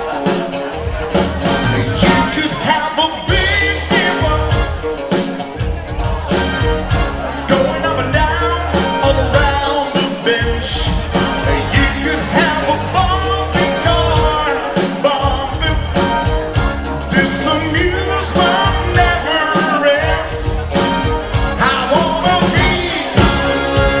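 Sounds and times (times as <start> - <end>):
live rock band playing: 0.0 - 24.0
person singing: 0.0 - 24.0
steady drum beat: 0.0 - 24.0.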